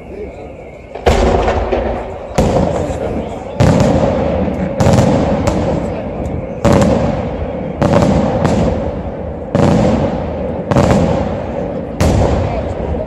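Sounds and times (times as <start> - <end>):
firework bangs with rumbling echo: 0.9 - 13.0.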